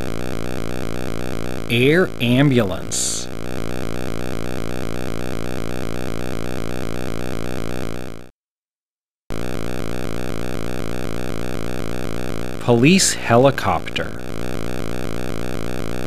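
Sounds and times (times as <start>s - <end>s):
electronic helicopter rotor buzz: 0.0s - 8.3s, 9.3s - 16.0s.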